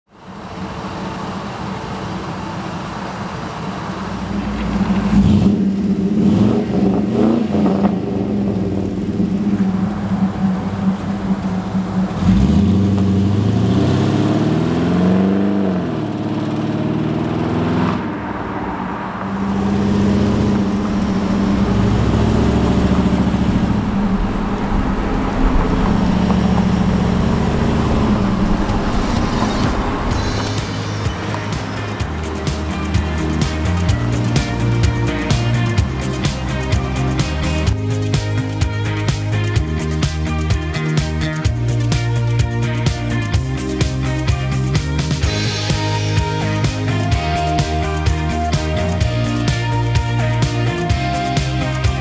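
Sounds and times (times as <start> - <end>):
pickup truck engine accelerating: 0.1 - 52.0.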